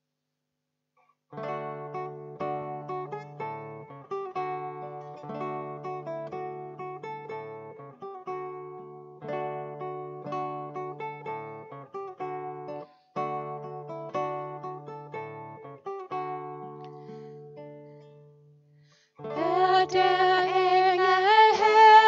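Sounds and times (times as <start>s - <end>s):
acoustic guitar playing: 1.4s - 22.0s.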